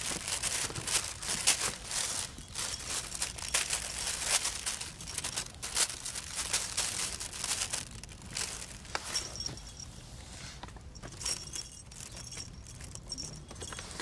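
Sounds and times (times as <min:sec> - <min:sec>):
plastic bag crinkling: 0:00.0 - 0:10.0, 0:11.0 - 0:14.0.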